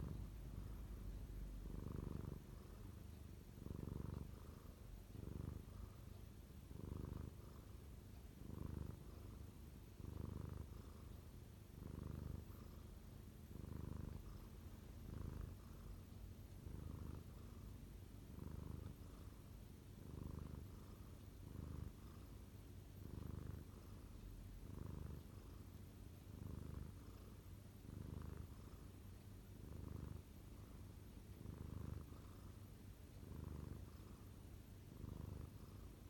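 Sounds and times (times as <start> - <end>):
cat purring: 0.0 - 36.0.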